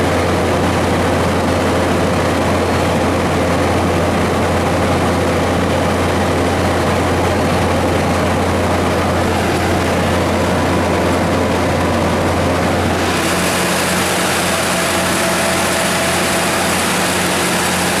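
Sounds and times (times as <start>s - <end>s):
generator engine humming: 0.0s - 18.0s.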